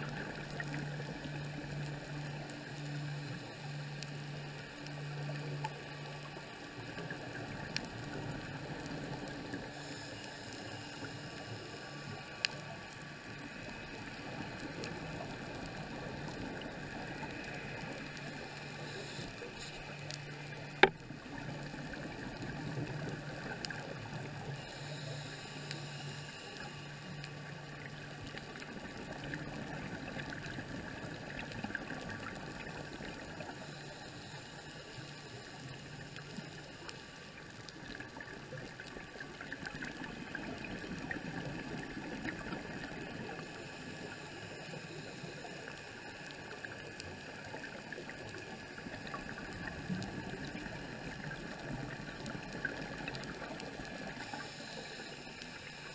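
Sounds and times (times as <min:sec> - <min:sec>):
muffled underwater hiss: 0:00.0 - 0:55.9
regulator breathing and bubbles: 0:00.0 - 0:55.9
small ticks: 0:00.0 - 0:55.9.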